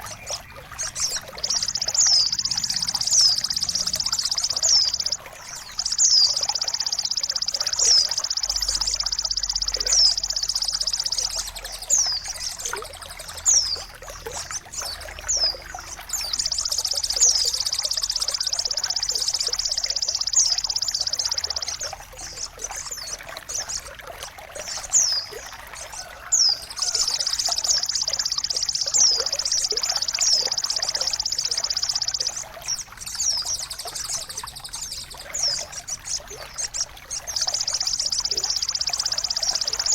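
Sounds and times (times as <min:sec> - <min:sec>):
bird buzzing trills: 0:00.0 - 0:39.9
running water trickling: 0:00.0 - 0:39.9.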